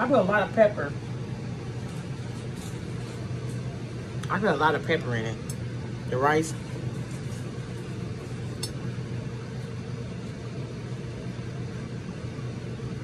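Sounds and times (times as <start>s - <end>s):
blower fan humming: 0.0s - 13.0s.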